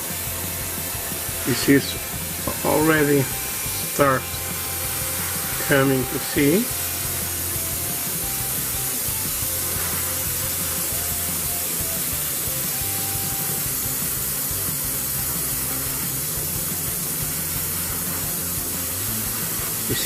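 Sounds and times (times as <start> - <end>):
airbrush hissing: 0.0 - 20.0.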